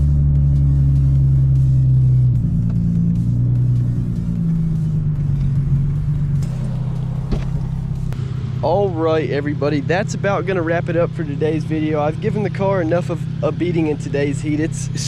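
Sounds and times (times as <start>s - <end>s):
car exhaust drone: 0.0s - 15.0s.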